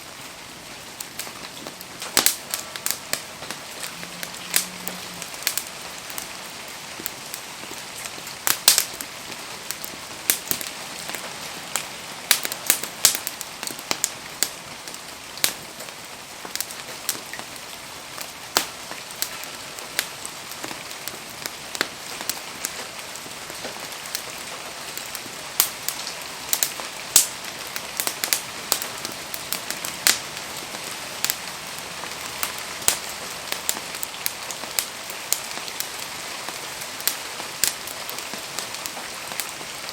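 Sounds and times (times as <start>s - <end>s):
rain falling: 0.0s - 39.9s
wood fire crackling and popping: 0.0s - 39.9s.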